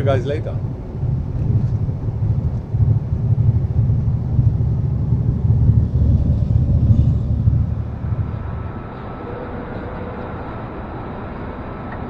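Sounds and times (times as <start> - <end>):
truck engine rumbling: 0.0 - 11.2
road noise: 0.0 - 12.0.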